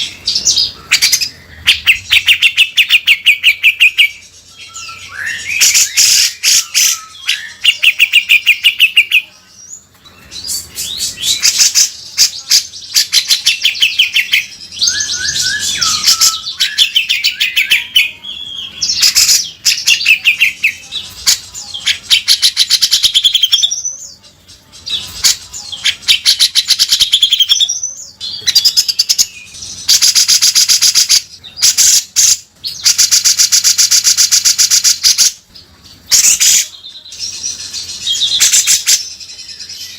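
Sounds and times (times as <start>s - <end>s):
bulbul singing chattering phrases: 0.0s - 39.9s.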